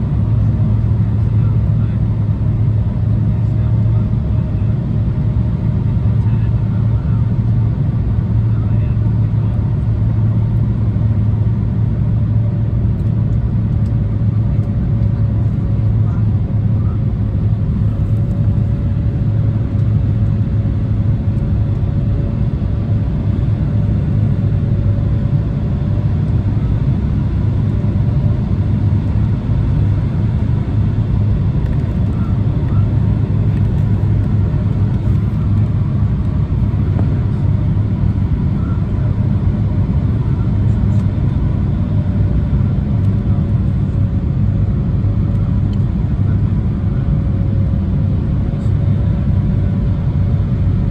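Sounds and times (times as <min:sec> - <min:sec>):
jet engine cabin roar: 0:00.0 - 0:50.9.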